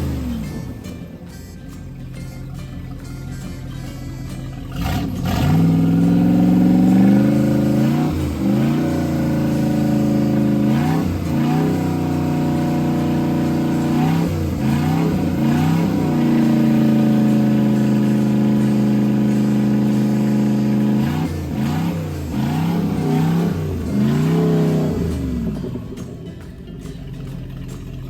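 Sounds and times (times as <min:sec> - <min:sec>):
boat engine revving: 0:00.0 - 0:28.0.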